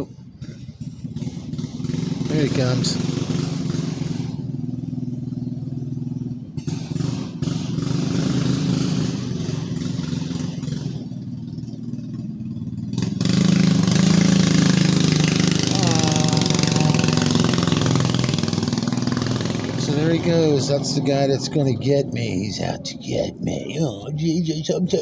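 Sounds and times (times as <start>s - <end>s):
dirt bike engine running: 0.0s - 23.7s.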